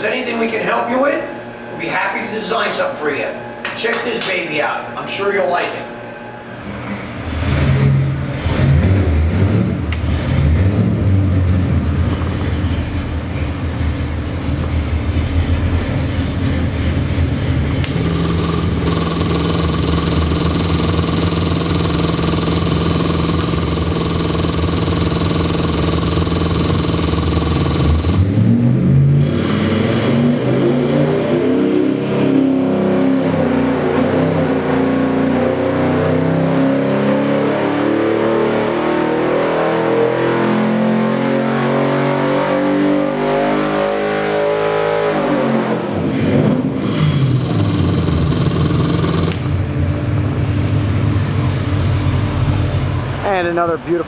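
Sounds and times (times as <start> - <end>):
car engine idling and revving: 7.1 - 53.2.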